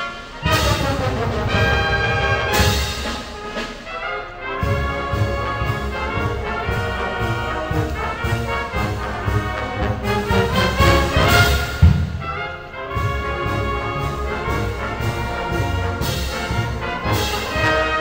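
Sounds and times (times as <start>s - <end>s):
wind band playing a march: 0.0s - 18.0s.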